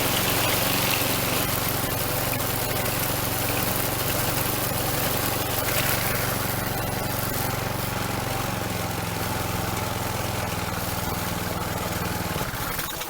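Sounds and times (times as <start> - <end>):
string trimmer engine idling: 0.0 - 13.0.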